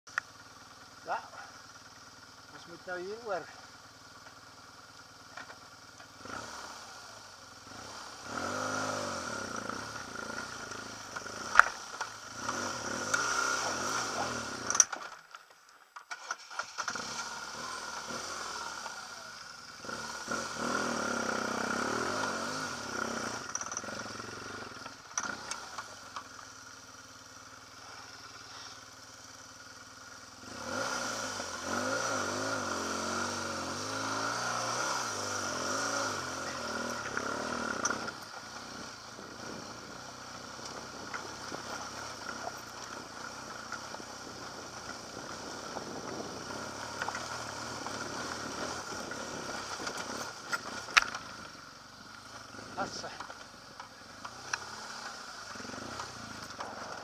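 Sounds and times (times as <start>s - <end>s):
motorcycle engine revving: 0.1s - 15.2s, 16.0s - 57.0s.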